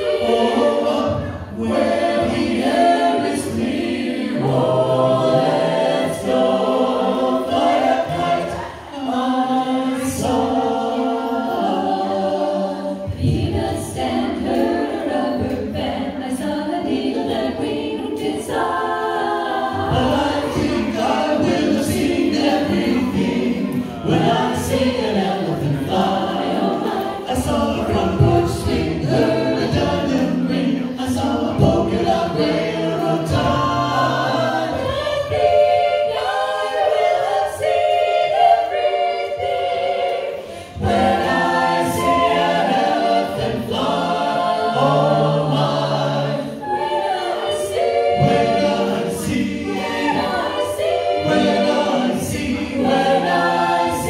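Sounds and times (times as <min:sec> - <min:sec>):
a cappella group singing in harmony: 0:00.0 - 0:54.0.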